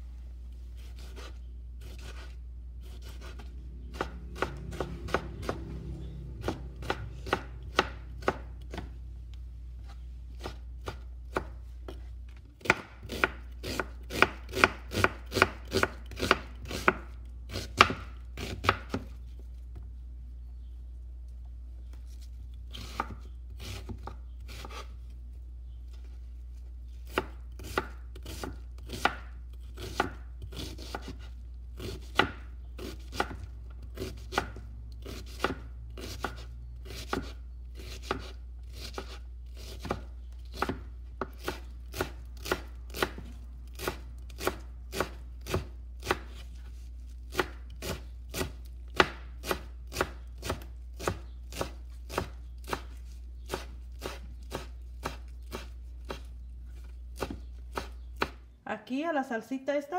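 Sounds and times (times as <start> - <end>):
knife chopping on wooden board: 0.8 - 5.7, 6.4 - 9.0, 10.4 - 19.1, 22.7 - 24.9, 27.1 - 46.5, 47.3 - 56.3, 57.2 - 58.4.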